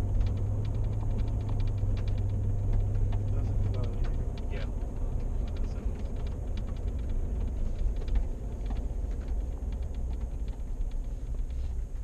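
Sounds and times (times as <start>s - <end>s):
vehicle cabin road rumble: 0.0s - 12.0s.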